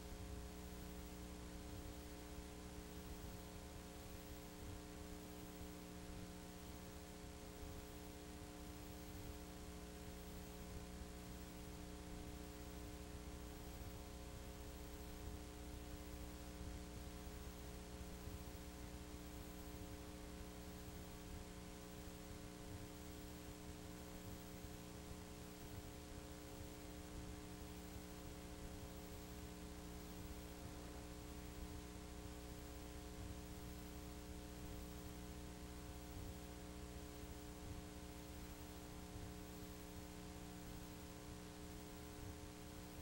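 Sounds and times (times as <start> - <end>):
faint electrical hum: 0.0 - 43.0.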